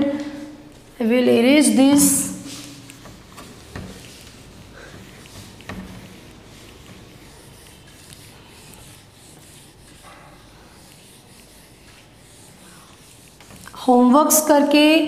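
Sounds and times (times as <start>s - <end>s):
duster wiping a whiteboard: 1.2s - 15.0s.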